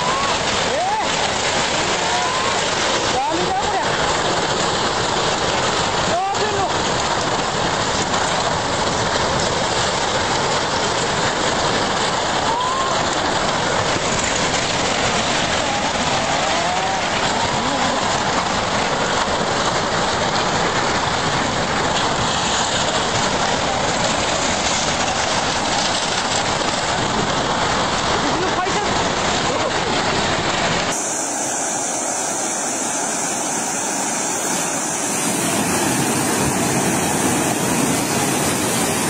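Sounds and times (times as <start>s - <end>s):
roar of rushing floodwater: 0.0s - 39.0s.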